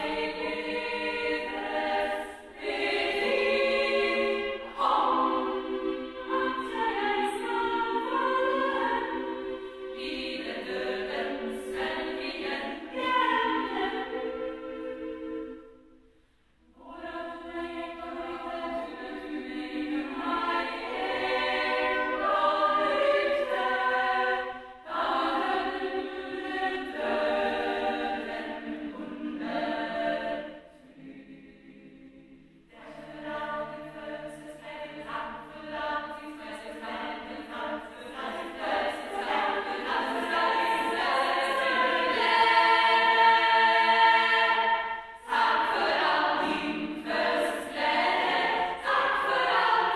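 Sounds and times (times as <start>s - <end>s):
women's choir singing a cappella: 0.0s - 49.9s.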